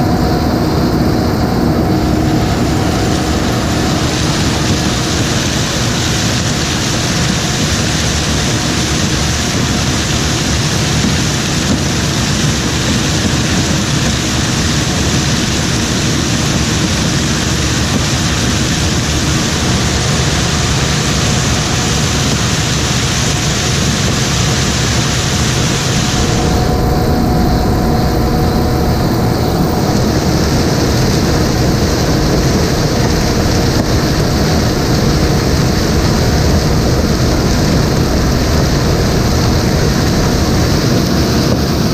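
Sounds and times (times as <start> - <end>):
diesel machinery droning: 0.0 - 41.9.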